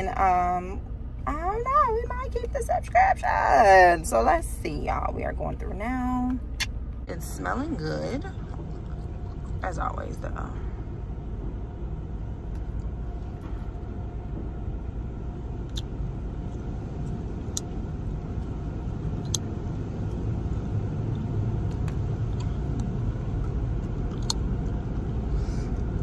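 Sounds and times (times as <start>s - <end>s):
car wash machinery rumble: 0.0s - 26.0s.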